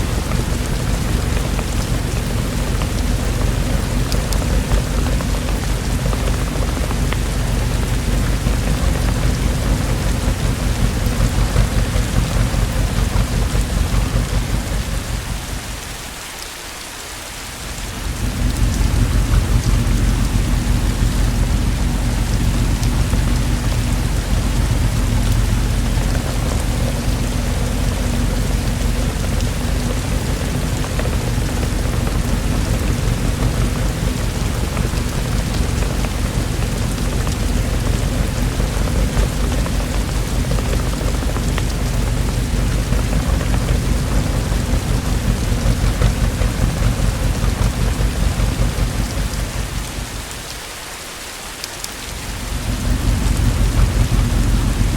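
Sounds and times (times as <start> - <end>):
thunder rumbling: 0.0 - 16.4, 17.5 - 50.8, 52.0 - 54.9
steady rain: 0.0 - 54.9.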